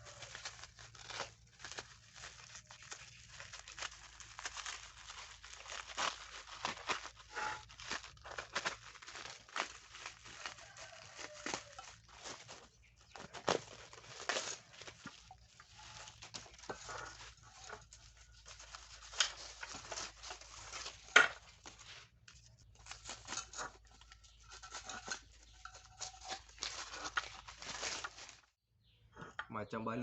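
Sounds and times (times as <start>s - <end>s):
rustling and scraping of handling: 0.0s - 28.6s.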